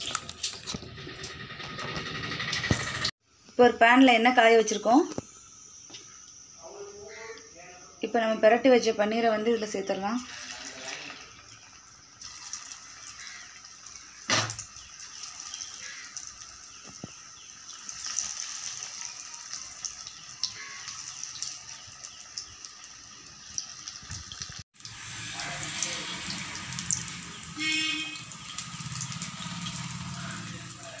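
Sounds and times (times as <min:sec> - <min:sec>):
food deep-frying in oil: 0:00.0 - 0:06.5, 0:08.0 - 0:31.0.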